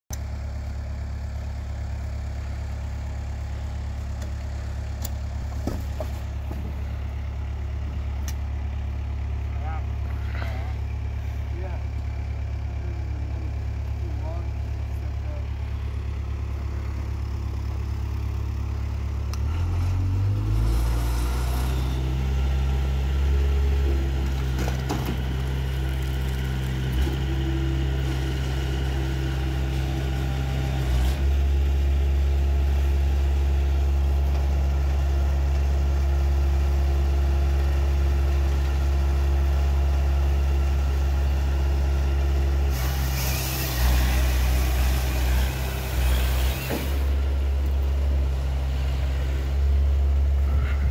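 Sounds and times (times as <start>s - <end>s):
firewood processor running: 0.2s - 50.9s.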